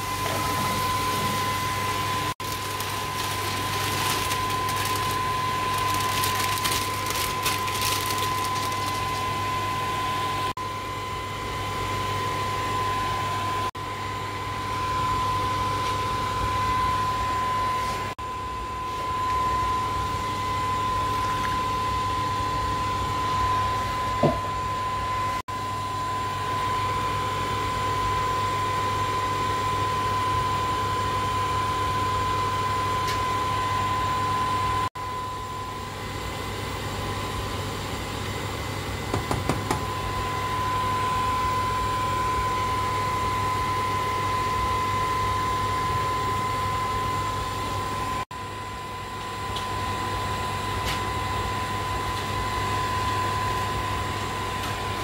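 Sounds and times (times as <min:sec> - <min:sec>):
mechanical drone with high whine: 0:00.0 - 0:55.0.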